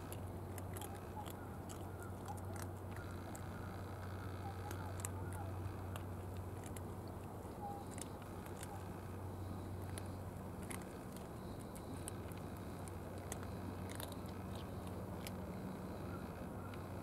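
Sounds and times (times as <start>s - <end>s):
cat chewing food: 0.0s - 17.0s
steady low rumble: 0.0s - 17.0s.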